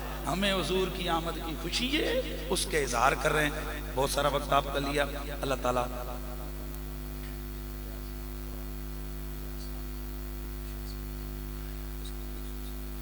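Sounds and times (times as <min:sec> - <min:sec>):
electrical mains hum and hiss: 0:00.0 - 0:13.0.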